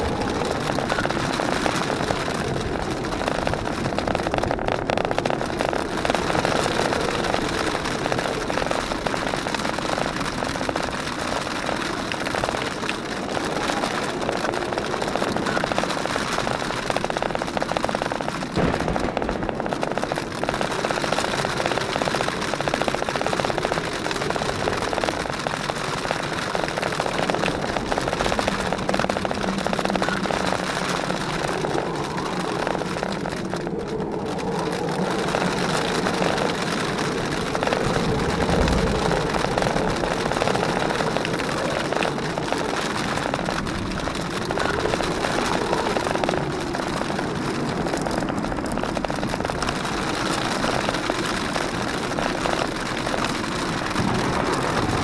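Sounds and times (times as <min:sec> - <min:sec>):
steady rushing noise: 0:00.0 - 0:55.0
tyres rolling over gravel: 0:00.0 - 0:55.0.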